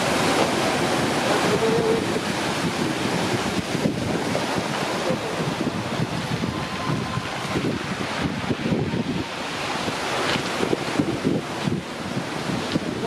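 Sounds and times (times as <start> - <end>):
sea surf washing in: 0.0 - 13.0
wind noise on microphone: 0.0 - 13.0.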